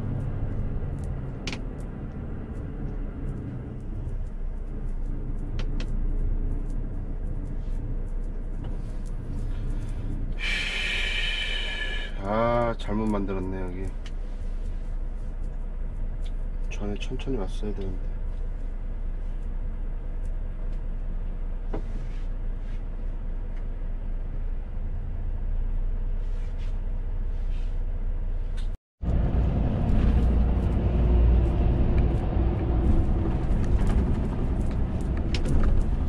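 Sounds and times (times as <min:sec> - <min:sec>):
road noise: 0:00.0 - 0:36.0
truck diesel engine rumble: 0:00.0 - 0:36.0.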